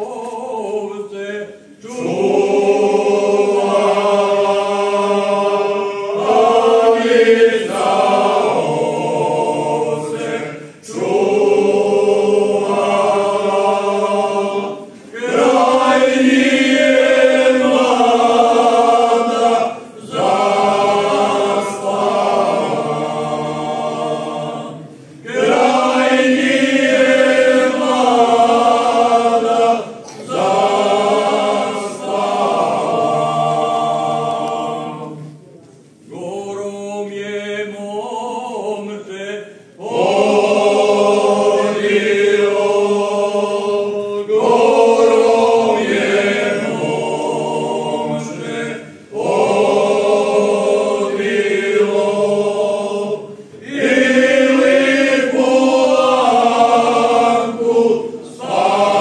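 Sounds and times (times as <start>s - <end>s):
men singing a cappella harmony: 0.0s - 35.3s, 36.1s - 59.0s.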